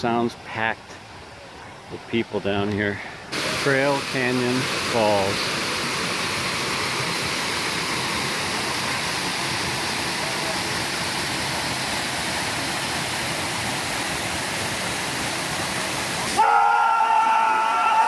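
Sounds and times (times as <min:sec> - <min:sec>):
waterfall rushing: 0:03.3 - 0:18.0.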